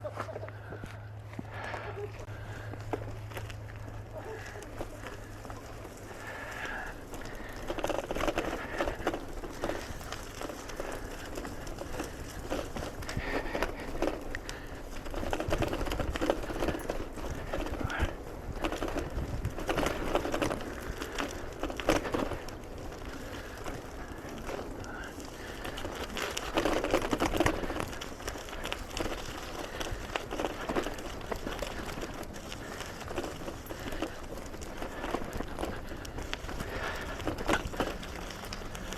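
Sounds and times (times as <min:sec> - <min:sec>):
bicycle tyres crunching on trail: 0:00.0 - 0:38.9
bike rattling: 0:00.0 - 0:38.9
small clicks and crackles: 0:00.0 - 0:38.9.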